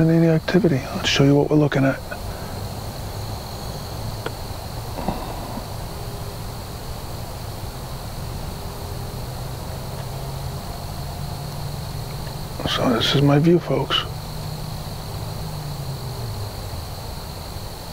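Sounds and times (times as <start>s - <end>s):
crickets trilling: 0.0s - 17.9s
low woodland rumble: 0.0s - 17.9s.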